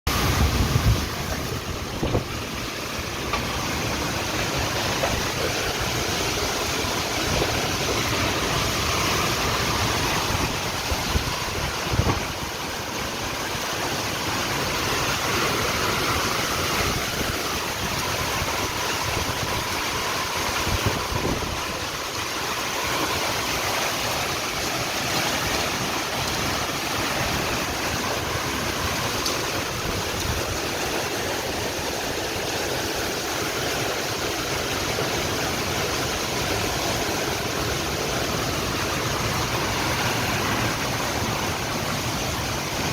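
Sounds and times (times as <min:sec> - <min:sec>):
heavy rain falling: 0:00.1 - 0:42.9.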